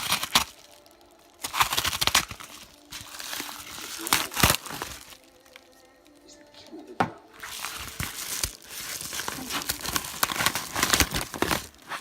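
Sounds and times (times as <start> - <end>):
packaging crinkling and tearing: 0.0 - 6.3, 7.4 - 12.0.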